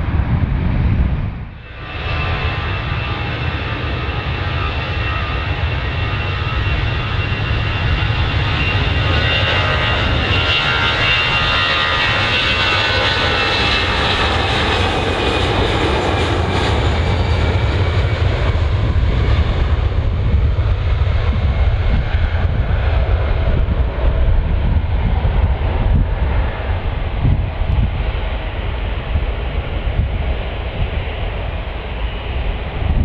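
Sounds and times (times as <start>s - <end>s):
jet engine low rumble: 0.0s - 33.0s
jet engine whine: 0.0s - 33.0s.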